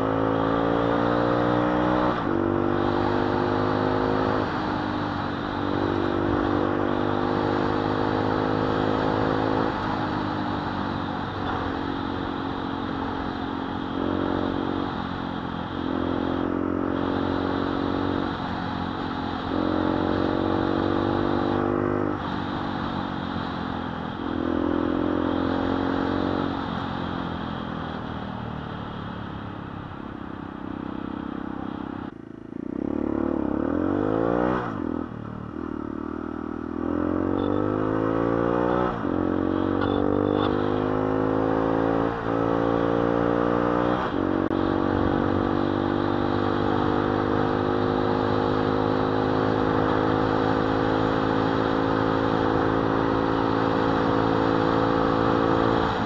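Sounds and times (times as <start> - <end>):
motorcycle accelerating through gears: 0.0 - 56.0.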